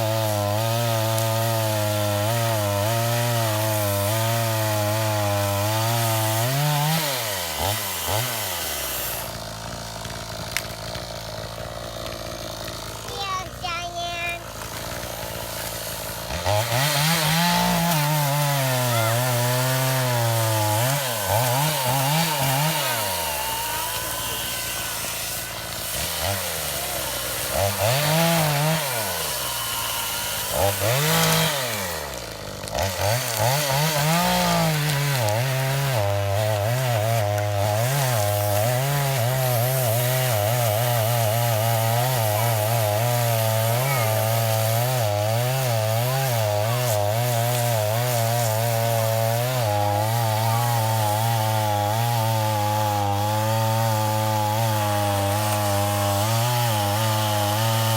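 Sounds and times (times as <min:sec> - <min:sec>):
chainsaw revving: 0:00.0 - 0:57.9.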